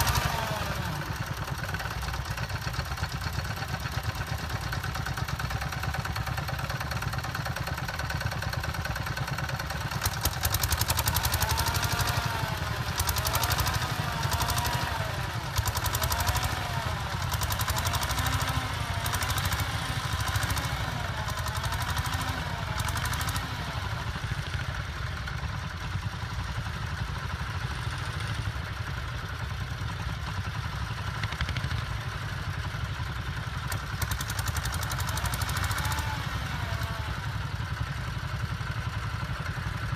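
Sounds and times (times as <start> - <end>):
clatter: 0.0 - 39.9
tractor engine running: 0.0 - 39.9.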